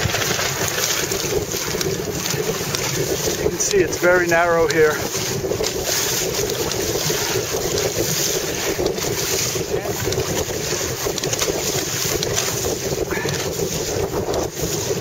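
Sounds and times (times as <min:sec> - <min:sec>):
water splashing along hulls: 0:00.0 - 0:15.0
wind buffeting microphone: 0:00.0 - 0:15.0.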